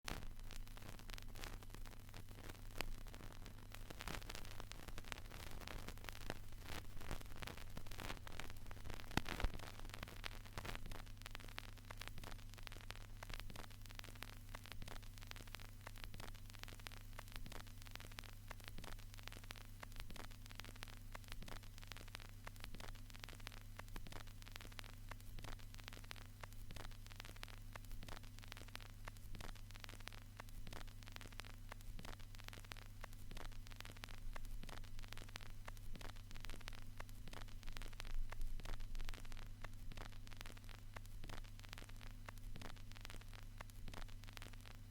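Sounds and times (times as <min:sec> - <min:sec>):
vinyl record crackle and pops: 0:00.0 - 0:44.9.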